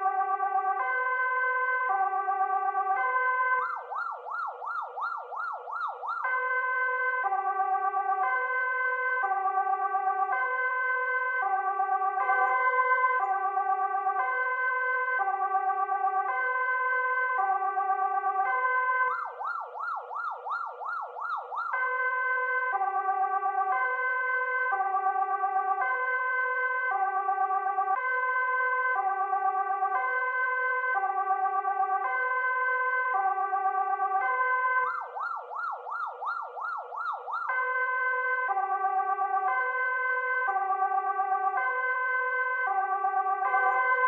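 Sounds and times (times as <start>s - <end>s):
police siren yelp: 0.0s - 44.0s
two-tone police siren: 0.0s - 44.0s.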